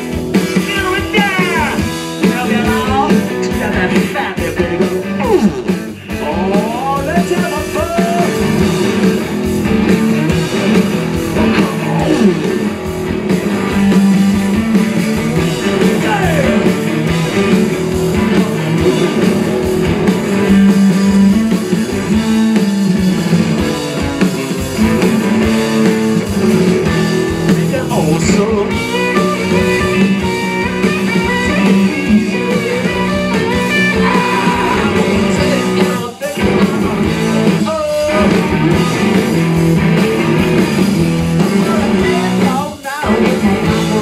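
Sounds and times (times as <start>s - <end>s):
distorted blues-rock band: 0.0s - 44.0s
sliding high guitar notes: 0.0s - 44.0s.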